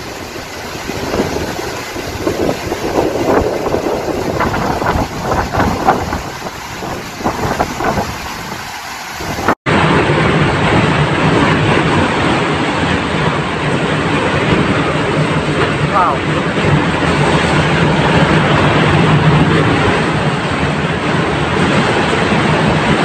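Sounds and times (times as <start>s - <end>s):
gusting wind: 0.0s - 23.0s
heavy rain: 0.0s - 23.0s
wind buffeting microphone: 0.0s - 23.0s.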